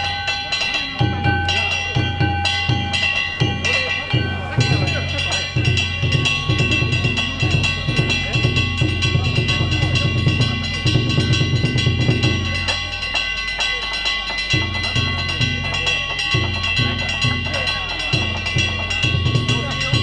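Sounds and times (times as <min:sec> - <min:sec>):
large drum beaten fast: 0:00.0 - 0:20.0
small hand gongs ringing: 0:00.0 - 0:20.0.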